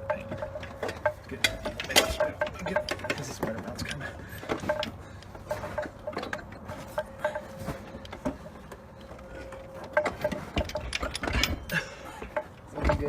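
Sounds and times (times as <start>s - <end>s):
metal parts knocking and clinking: 0.0s - 13.0s.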